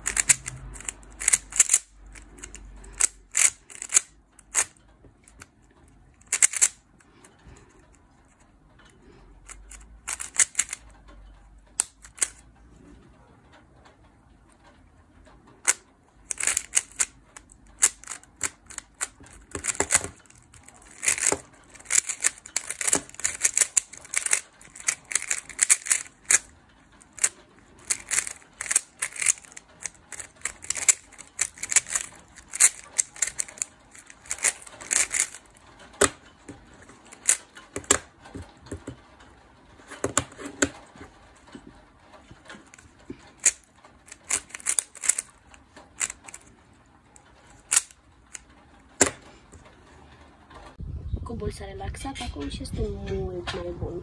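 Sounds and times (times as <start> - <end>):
puzzle cube clacking turns: 0.0 - 11.0, 11.7 - 12.5, 15.5 - 39.1, 39.7 - 49.6.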